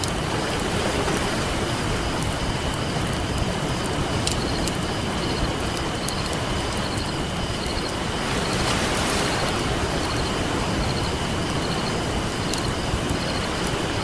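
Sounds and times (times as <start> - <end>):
campfire crackling and popping: 0.0 - 9.0, 9.9 - 14.0
ocean surf: 0.0 - 14.0.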